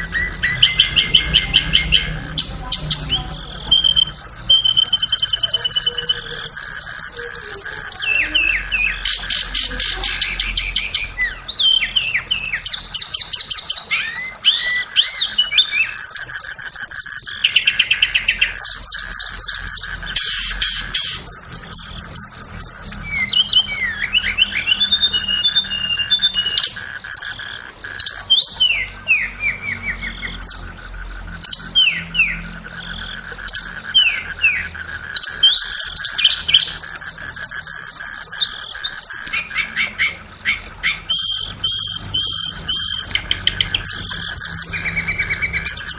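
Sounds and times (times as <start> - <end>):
faint steady hum: 0.0 - 45.9
flowerpecker song: 0.0 - 45.9.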